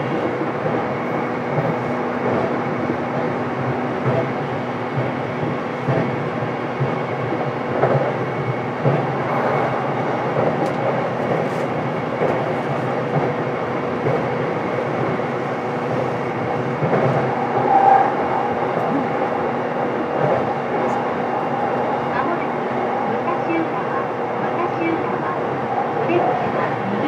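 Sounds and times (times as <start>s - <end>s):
electric train running hum: 0.0s - 27.0s.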